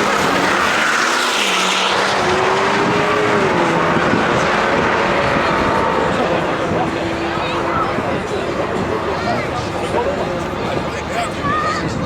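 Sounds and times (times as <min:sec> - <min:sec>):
car engine revving: 0:00.0 - 0:10.5.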